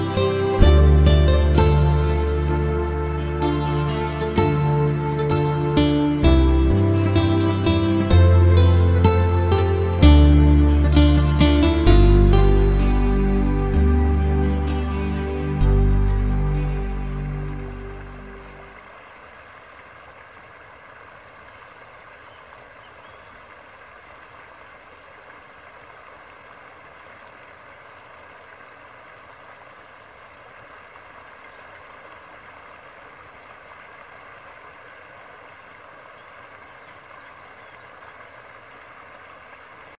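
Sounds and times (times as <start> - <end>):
water rushing over weir: 0.0 - 40.0.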